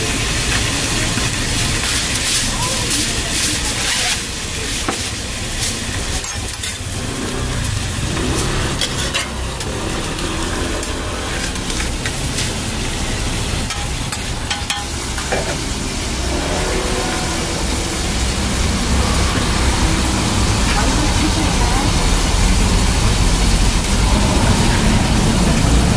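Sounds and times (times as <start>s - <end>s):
food sizzling on a griddle: 0.0s - 25.9s.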